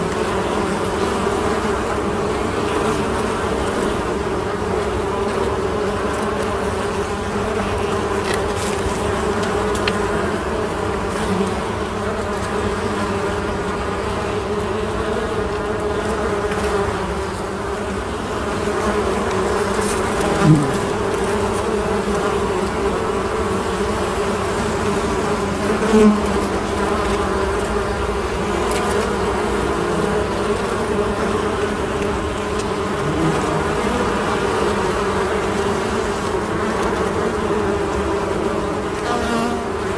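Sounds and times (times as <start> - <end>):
honeybees buzzing: 0.0 - 39.9
loud bee buzzes: 0.0 - 39.9.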